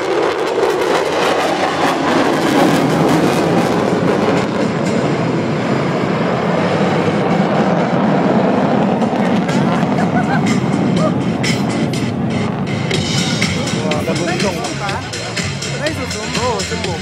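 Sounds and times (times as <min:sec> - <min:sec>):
fighter jets flying past: 0:00.0 - 0:17.0.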